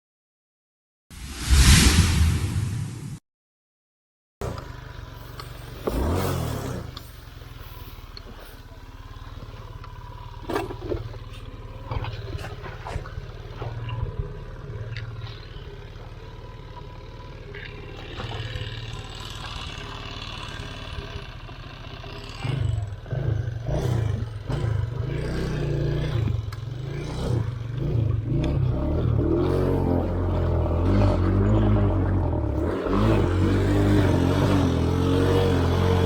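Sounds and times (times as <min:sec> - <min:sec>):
motorcycle engine revving: 0:04.5 - 0:07.4, 0:08.9 - 0:36.0.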